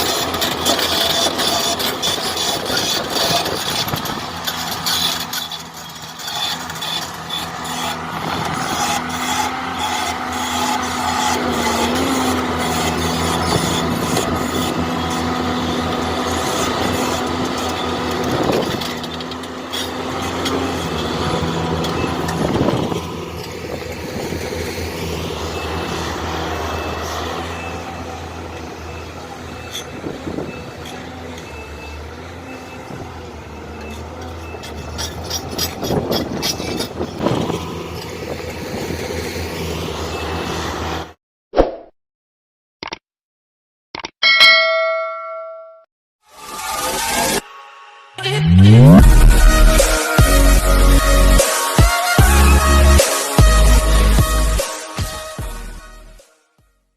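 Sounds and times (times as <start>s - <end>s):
excavator diesel engine: 0.0s - 41.2s, 48.2s - 56.2s.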